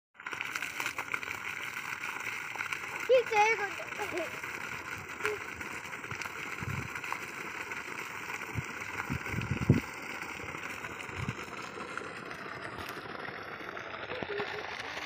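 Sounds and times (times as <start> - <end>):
water gushing from hose onto dirt: 0.2 - 15.0.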